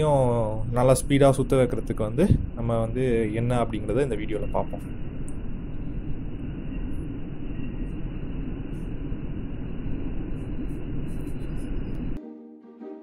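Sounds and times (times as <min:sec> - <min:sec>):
electric fan whirring: 0:00.0 - 0:12.2.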